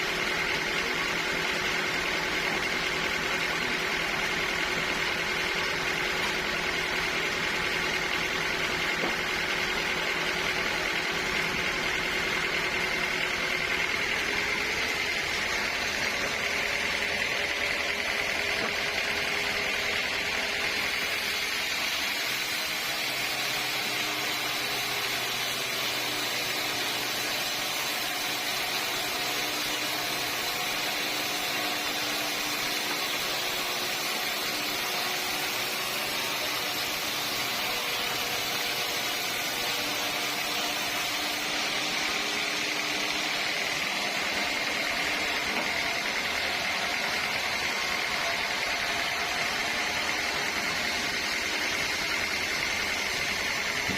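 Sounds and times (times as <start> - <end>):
sawmill machinery whirring: 0.0 - 53.9.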